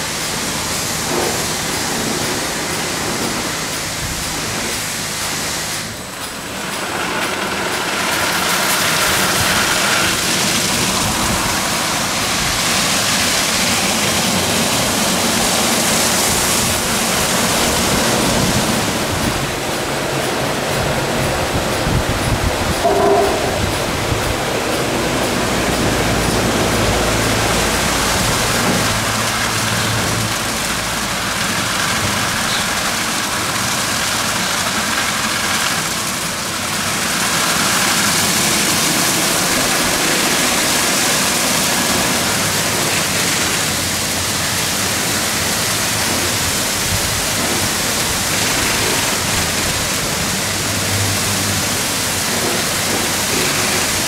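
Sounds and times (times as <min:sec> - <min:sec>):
spraying water: 0:00.0 - 0:54.0.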